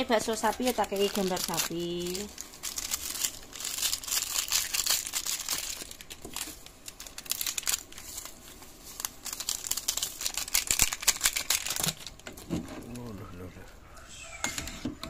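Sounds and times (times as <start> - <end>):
plastic sachets crinkling: 0.0 - 13.7.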